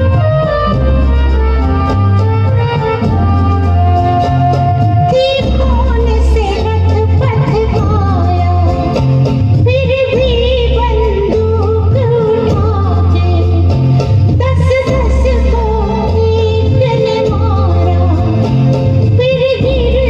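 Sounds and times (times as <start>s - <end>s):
song through loudspeakers: 0.0s - 20.0s.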